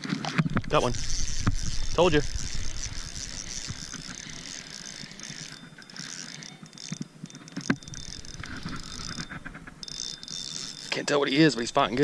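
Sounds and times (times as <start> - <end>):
fishing reel whirring: 0.3 - 12.0.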